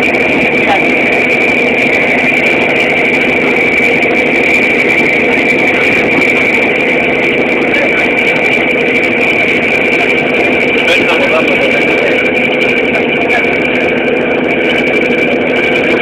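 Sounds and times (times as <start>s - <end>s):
high whine: 0.0s - 16.0s
ship engine drone: 0.0s - 16.0s.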